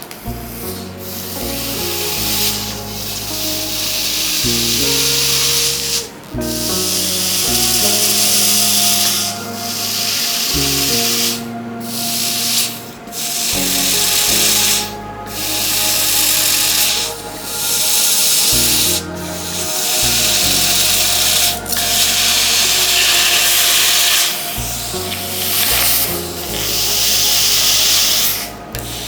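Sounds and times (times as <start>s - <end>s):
low sustained notes: 0.0s - 29.0s
hot metal hissing against ice: 0.5s - 6.1s, 6.7s - 29.0s.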